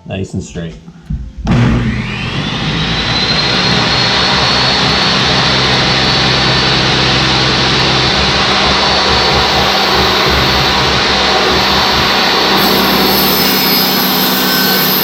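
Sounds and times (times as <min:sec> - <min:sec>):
power saw cutting shingles: 0:01.5 - 0:15.0.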